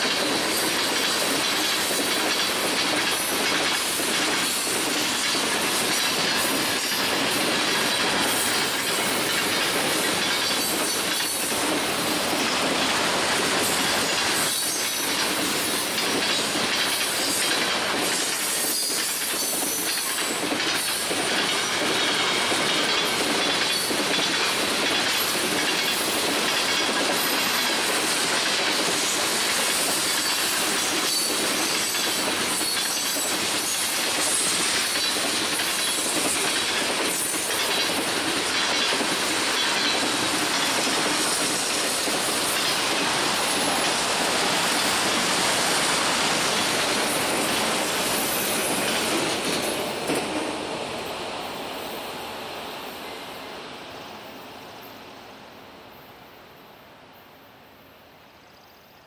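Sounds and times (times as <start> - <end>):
train wheels rolling on rails: 0.0 - 55.2.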